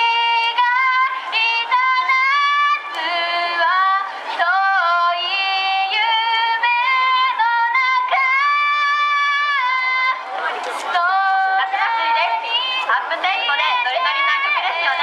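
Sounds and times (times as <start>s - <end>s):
girls singing: 0.0s - 15.0s.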